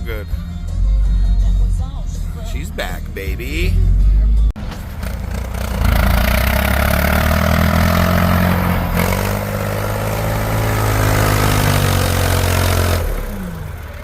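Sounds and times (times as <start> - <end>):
engine revving: 2.4 - 14.0.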